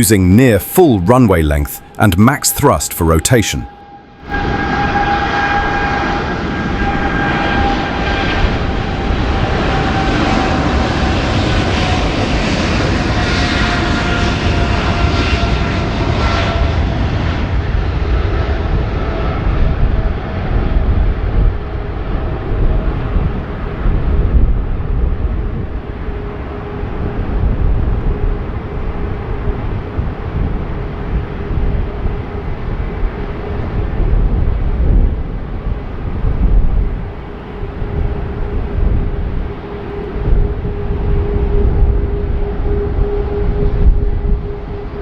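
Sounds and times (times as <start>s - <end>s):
jet engines roaring with whine: 0.0s - 45.0s.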